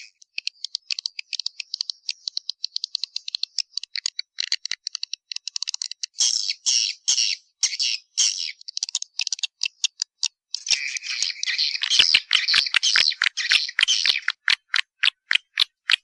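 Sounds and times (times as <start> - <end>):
buzzy bird twitters: 0.0 - 16.0
high clicking bird chirps: 0.0 - 16.0.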